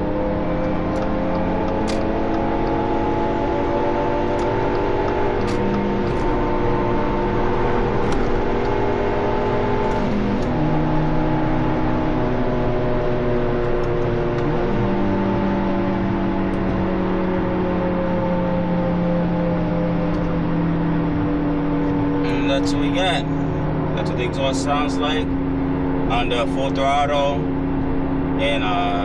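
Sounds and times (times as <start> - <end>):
car engine through loud exhaust: 0.0 - 29.0
road noise: 0.0 - 29.0.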